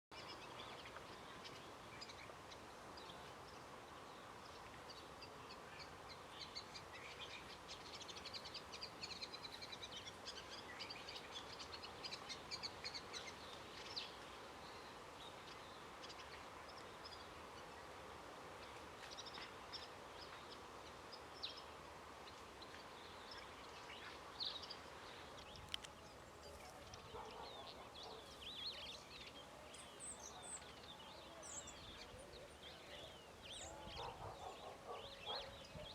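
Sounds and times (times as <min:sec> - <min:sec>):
small birds chirping and trilling: 0:00.1 - 0:35.9.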